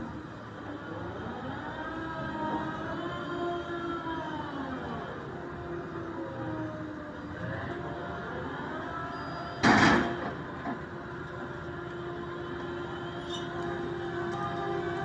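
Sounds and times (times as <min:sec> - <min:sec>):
crane machinery humming: 0:00.0 - 0:15.0.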